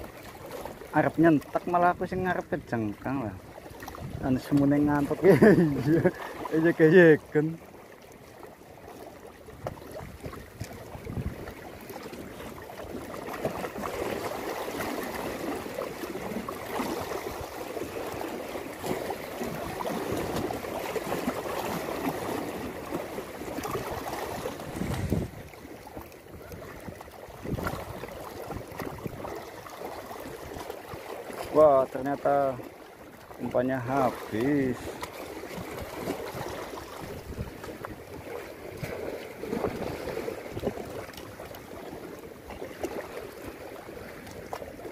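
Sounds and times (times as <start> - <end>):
sea waves splashing against rocks: 0.0 - 44.9.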